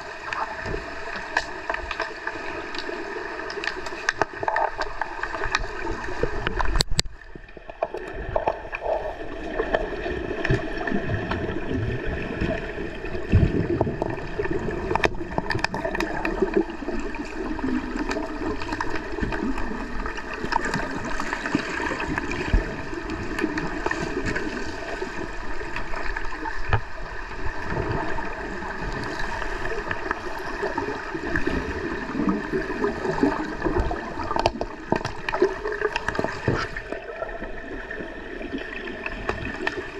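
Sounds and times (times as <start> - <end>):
underwater bubbling and churning: 0.0 - 39.9.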